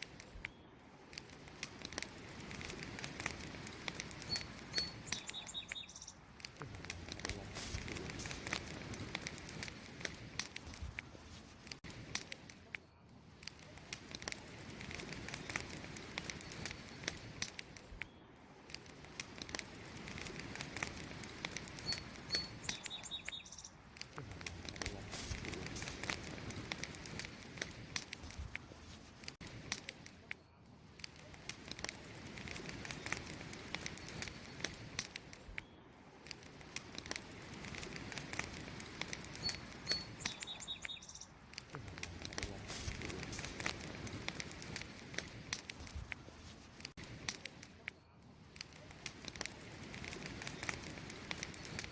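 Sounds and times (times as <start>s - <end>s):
campfire wood crackling: 0.0s - 51.9s.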